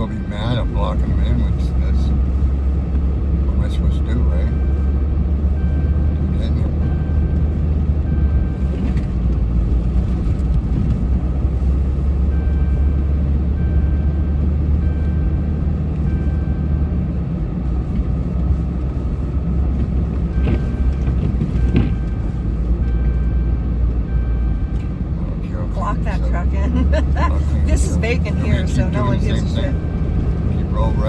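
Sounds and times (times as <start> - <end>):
truck engine rumbling: 0.0 - 31.0.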